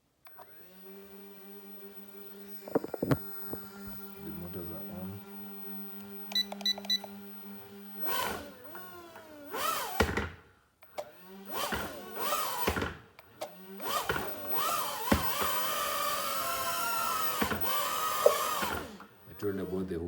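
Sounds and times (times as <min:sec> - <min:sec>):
toy drone motors whining: 0:00.3 - 0:10.0, 0:13.5 - 0:20.0.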